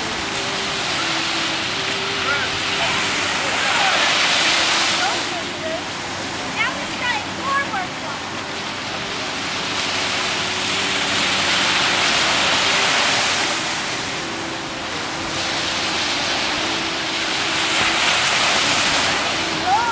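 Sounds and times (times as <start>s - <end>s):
rushing water: 0.0s - 19.9s.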